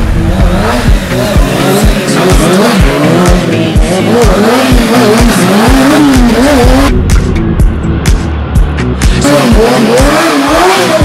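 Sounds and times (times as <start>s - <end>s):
motorcycle engine revving: 0.0s - 11.0s
music with thumping beat: 0.0s - 11.0s.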